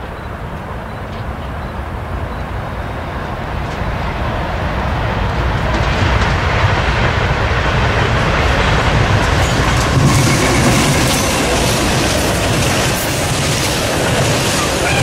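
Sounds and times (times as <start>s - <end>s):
diesel locomotive engine rumble: 0.0s - 15.0s
wheel and rail noise: 0.0s - 15.0s.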